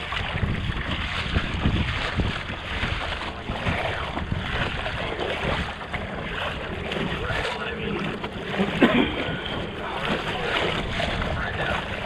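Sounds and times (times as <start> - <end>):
choppy water: 0.0 - 12.0
wind buffeting microphone: 0.0 - 12.0.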